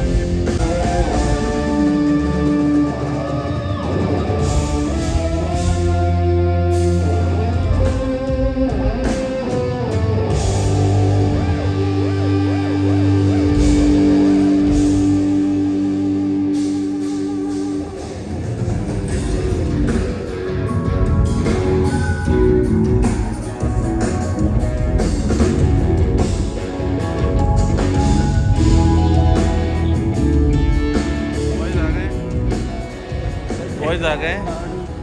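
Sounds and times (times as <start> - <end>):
rock music with guitar: 0.0 - 35.0.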